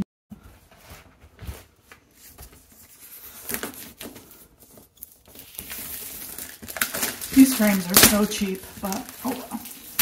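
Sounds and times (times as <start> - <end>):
plastic wrapping rustling: 0.8 - 10.0.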